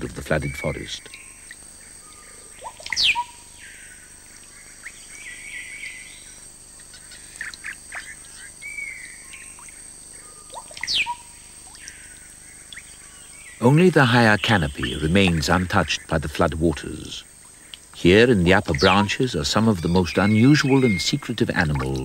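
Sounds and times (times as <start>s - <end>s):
birds chirping: 0.0s - 22.0s
thin steady high tone: 0.0s - 22.0s.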